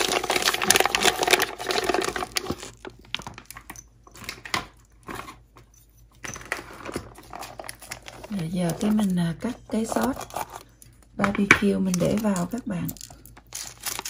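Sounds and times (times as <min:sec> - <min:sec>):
plastic bag crinkling: 0:00.0 - 0:05.3, 0:06.4 - 0:11.2, 0:11.8 - 0:14.0.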